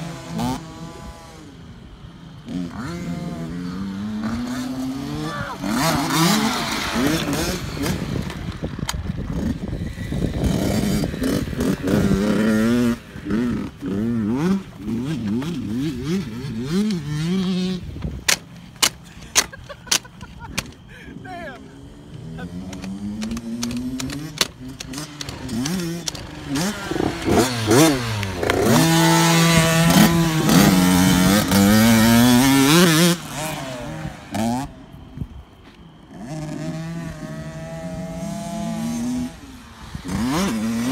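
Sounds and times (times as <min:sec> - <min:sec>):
dirt bike engine revving: 0:00.0 - 0:35.3, 0:36.1 - 0:40.9.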